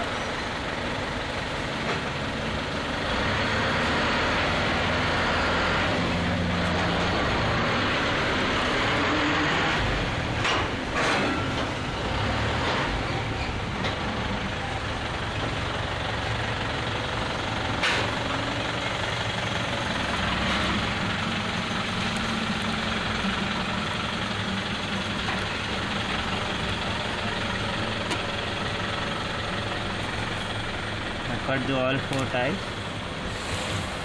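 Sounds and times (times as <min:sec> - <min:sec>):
machinery rumbling: 0:00.0 - 0:34.0.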